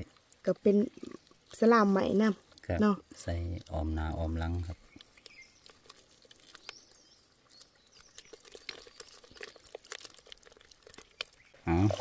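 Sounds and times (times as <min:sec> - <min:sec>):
bird chirping: 0:00.8 - 0:09.9, 0:10.9 - 0:12.0.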